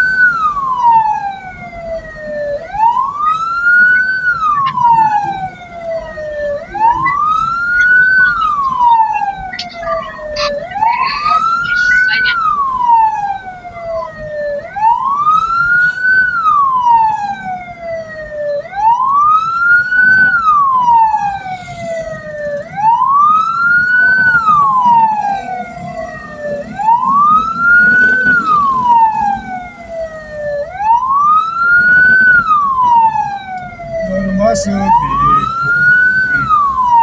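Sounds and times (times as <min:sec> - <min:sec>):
electronic siren wailing: 0:00.0 - 0:37.0
engine and road rumble: 0:00.0 - 0:37.0.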